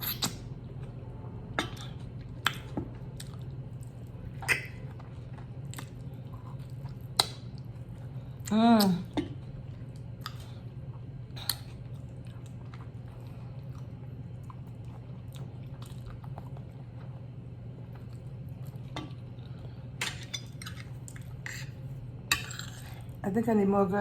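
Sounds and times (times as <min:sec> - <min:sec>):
steady low hum: 0:00.0 - 0:24.0
chewing and mouth sounds: 0:01.6 - 0:23.2.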